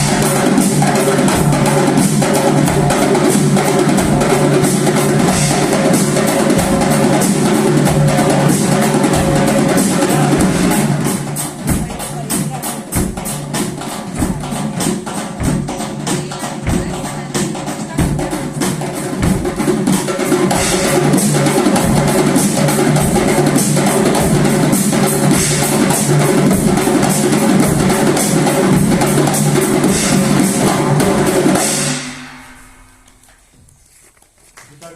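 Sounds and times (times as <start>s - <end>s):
ensemble of drums playing: 0.0s - 33.5s.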